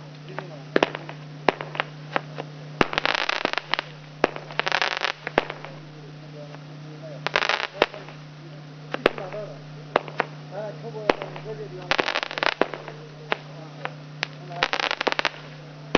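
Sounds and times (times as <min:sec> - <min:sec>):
firework crackling: 0:00.0 - 0:15.9
firework bangs: 0:00.3 - 0:06.6, 0:07.2 - 0:08.3, 0:08.9 - 0:15.9.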